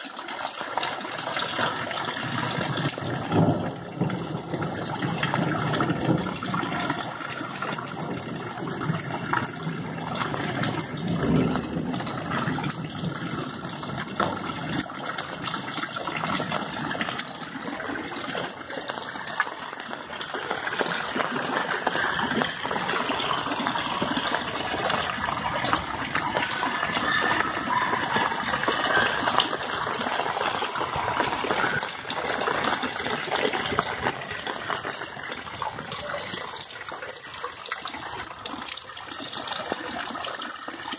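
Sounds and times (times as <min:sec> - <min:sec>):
heavy rain pouring: 0:00.0 - 0:40.9
water gushing and splashing: 0:00.0 - 0:40.9.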